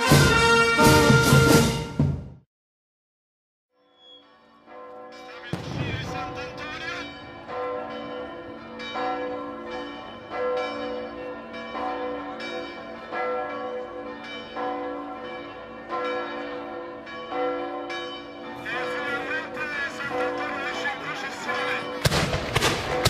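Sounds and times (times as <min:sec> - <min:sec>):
church bells ringing: 0:04.3 - 0:23.0.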